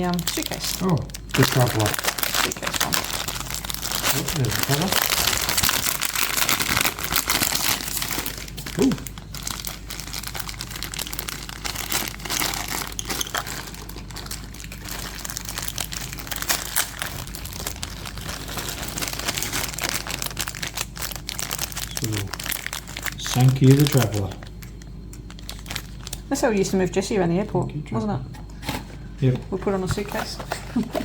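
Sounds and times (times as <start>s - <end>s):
packaging crinkling and rustling: 0.0s - 26.6s, 28.6s - 31.0s.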